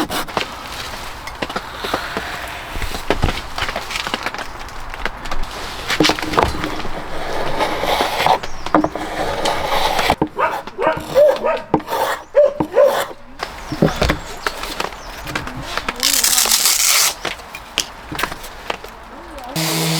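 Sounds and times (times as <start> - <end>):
hand tool scraping wood: 0.0 - 4.5, 5.4 - 17.4, 19.6 - 19.9.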